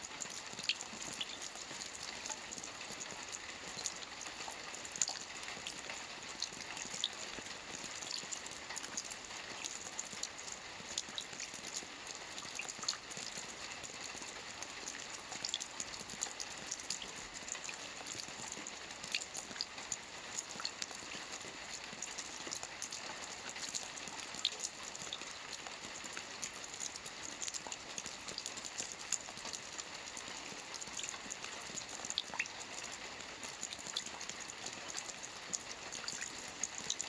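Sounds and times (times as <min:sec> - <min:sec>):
soft rain on a roof: 0:00.0 - 0:37.0.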